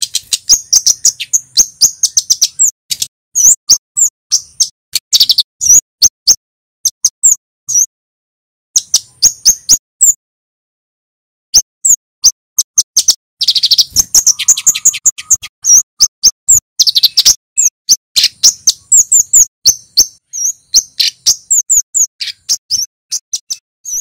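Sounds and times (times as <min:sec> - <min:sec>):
bird high chips: 0:00.0 - 0:07.9, 0:08.8 - 0:10.2, 0:11.6 - 0:24.0
rapid trilled bird chips: 0:00.0 - 0:07.9, 0:08.8 - 0:10.2, 0:11.6 - 0:24.0.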